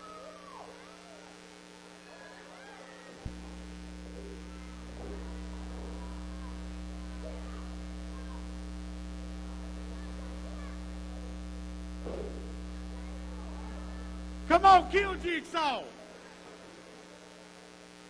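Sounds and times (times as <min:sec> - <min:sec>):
faint voices: 0:00.0 - 0:18.0
mains hum: 0:00.0 - 0:18.0.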